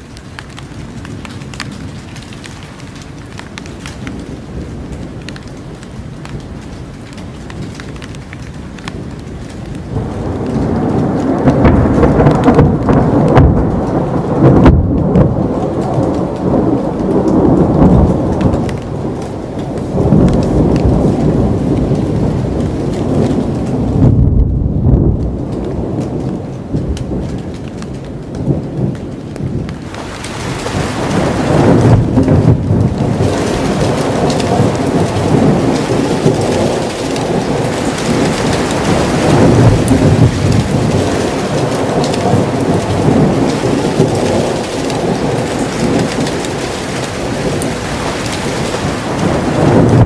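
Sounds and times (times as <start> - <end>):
heavy rain: 0.0 - 50.0
thunder rumbling: 0.0 - 50.0.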